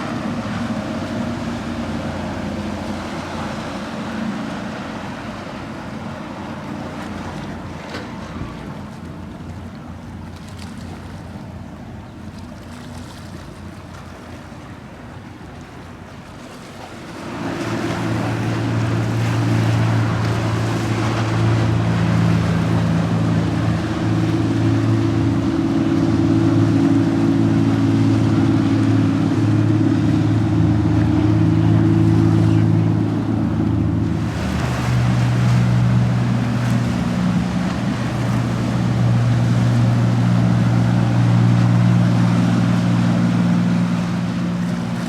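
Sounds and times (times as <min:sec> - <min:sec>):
boat engine droning: 0:00.0 - 0:45.0
wind and water hiss: 0:00.0 - 0:45.0.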